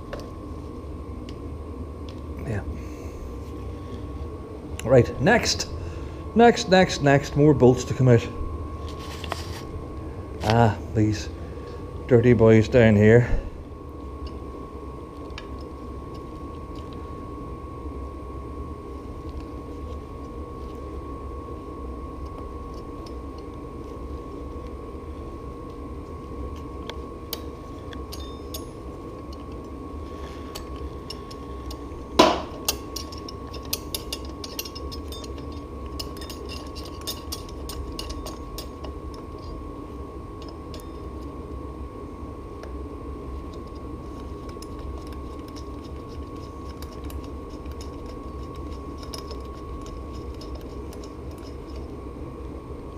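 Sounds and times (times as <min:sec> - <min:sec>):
steady background hum: 0:00.0 - 0:52.9.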